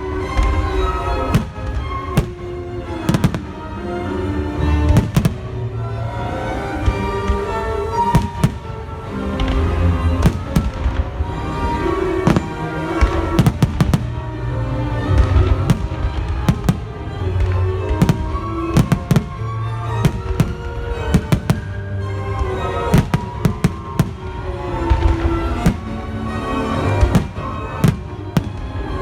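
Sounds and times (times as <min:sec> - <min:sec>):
orchestral music over speakers: 0:00.0 - 0:29.0
fireworks bangs: 0:00.2 - 0:03.8, 0:04.7 - 0:05.6, 0:06.8 - 0:29.0.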